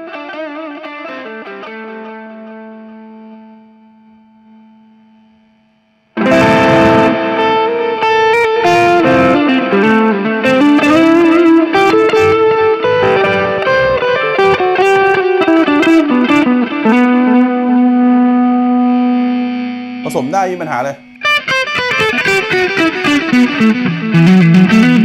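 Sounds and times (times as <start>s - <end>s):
electric guitar melodic line: 0.0s - 5.4s, 6.2s - 25.0s.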